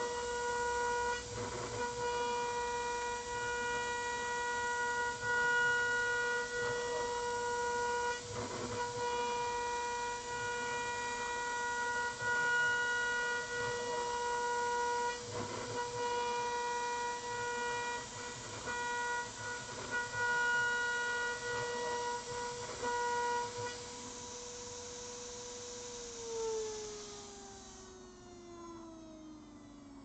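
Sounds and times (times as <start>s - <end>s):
router spindle whine: 0.0s - 30.0s.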